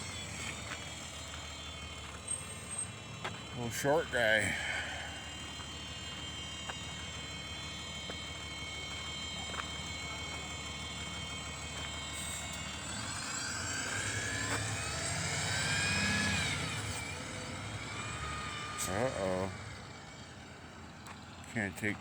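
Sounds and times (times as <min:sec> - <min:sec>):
bus engine hum and whine: 0:00.0 - 0:22.0.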